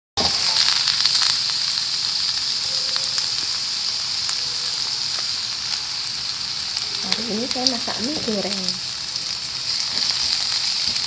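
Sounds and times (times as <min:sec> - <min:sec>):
food sizzling in hot oil: 0:00.2 - 0:11.0
oil popping and crackling: 0:00.2 - 0:11.0.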